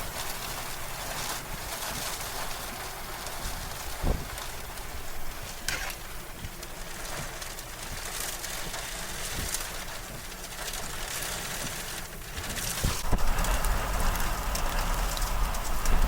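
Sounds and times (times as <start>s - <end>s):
hailstones striking sharply: 0.0s - 16.0s
wind-driven rain and hail: 0.0s - 16.0s.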